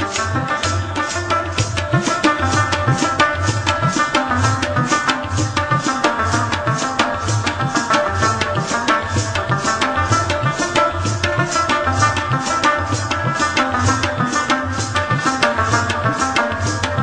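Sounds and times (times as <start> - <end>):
music with drums and bass: 0.0 - 17.0.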